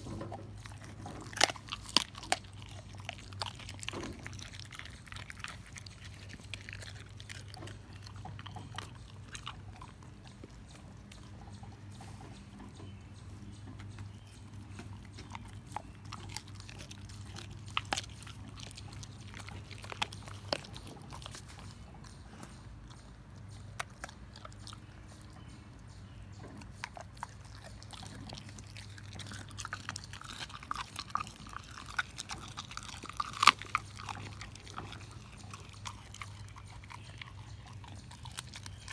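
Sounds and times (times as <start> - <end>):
dog crunching bone: 0.0 - 25.4, 26.4 - 38.9.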